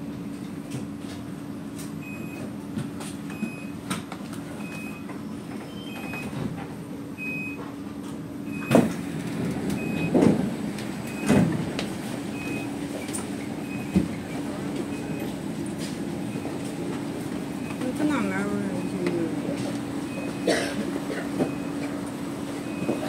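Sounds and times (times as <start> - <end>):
train car low hum: 0.0 - 23.0.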